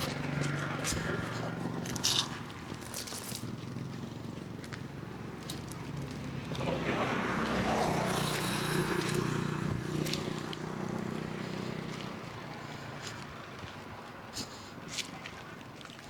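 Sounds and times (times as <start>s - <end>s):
vehicle engine humming: 0.0s - 14.1s.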